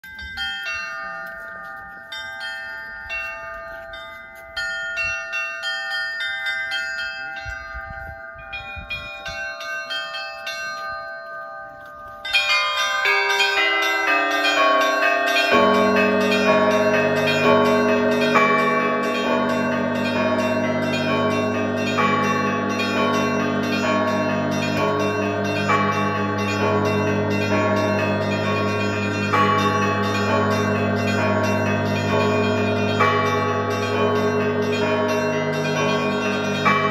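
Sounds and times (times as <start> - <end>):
deep low bells: 0.0 - 36.9
small high bells ringing: 0.0 - 36.9.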